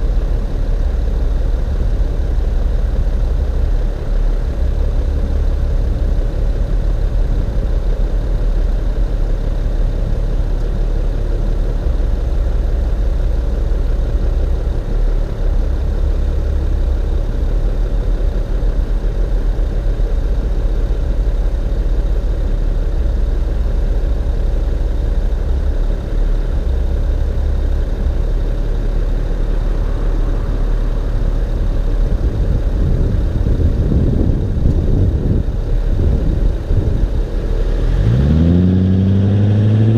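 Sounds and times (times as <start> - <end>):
car engine exhaust running: 0.0 - 39.9.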